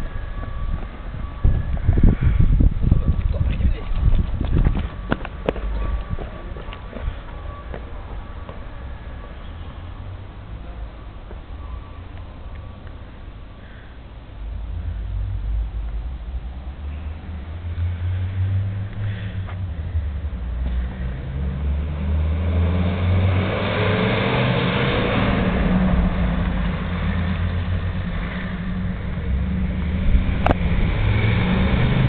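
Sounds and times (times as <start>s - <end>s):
traffic passing: 0.0s - 32.0s
van engine pulling away: 4.3s - 32.0s.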